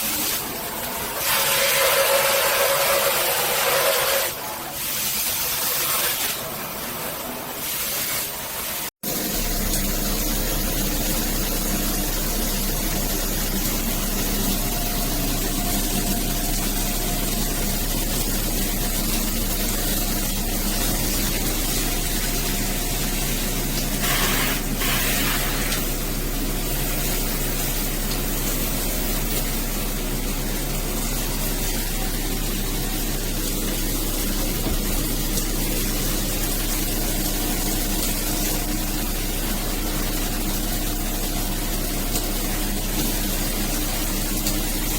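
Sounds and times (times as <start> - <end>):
shower spraying water: 0.0 - 44.9.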